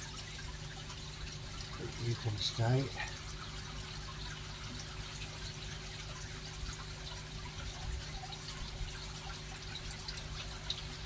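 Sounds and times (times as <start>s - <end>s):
faint steady hum: 0.0s - 11.0s
water drips and splashes: 0.0s - 11.0s
water trickling: 0.0s - 11.0s.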